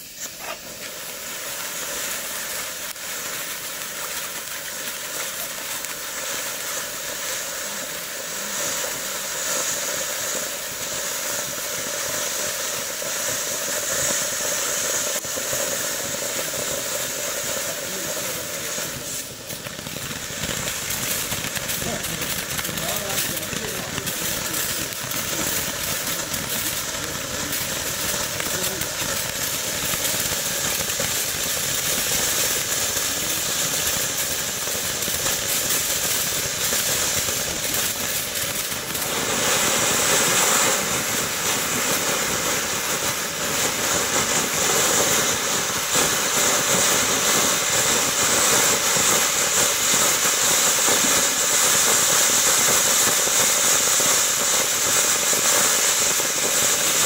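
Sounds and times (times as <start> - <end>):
firework fountain hissing: 0.0 - 57.0
spark crackles: 0.0 - 57.0.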